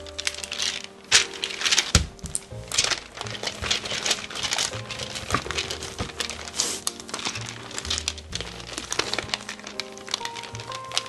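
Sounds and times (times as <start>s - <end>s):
parchment paper crinkling: 0.0s - 11.0s
soft background music: 0.0s - 11.0s.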